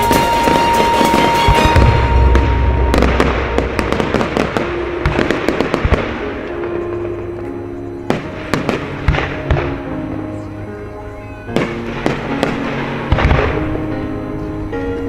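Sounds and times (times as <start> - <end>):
fireworks booming and crackling: 0.0 - 14.9
music playing: 0.0 - 15.0.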